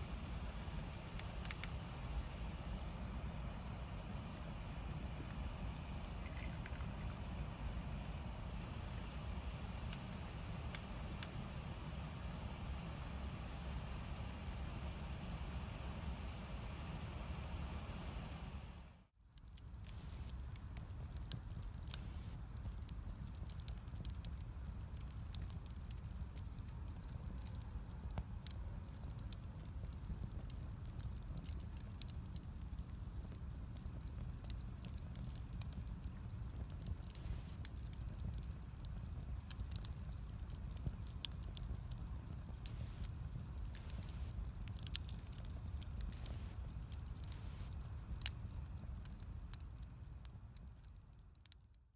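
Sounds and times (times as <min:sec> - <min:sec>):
bonfire crackling and popping: 0:00.0 - 0:51.9
low steady rumble: 0:00.0 - 0:51.9.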